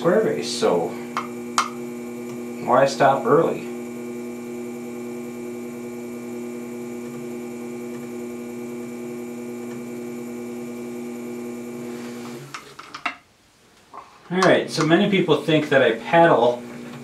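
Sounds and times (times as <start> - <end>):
potter's wheel motor humming: 0.0 - 12.6, 14.4 - 17.0.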